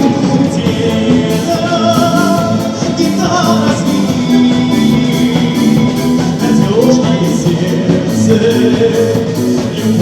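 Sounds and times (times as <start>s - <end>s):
folk instrument orchestra playing: 0.0s - 8.5s
man singing: 0.0s - 10.0s.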